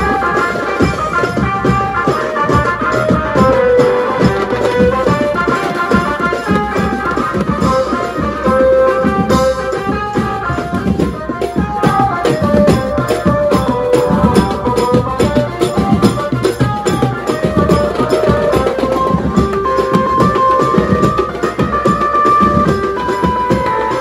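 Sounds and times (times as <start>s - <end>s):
cymbals: 0.0s - 24.0s
sustained melody line: 0.0s - 24.0s.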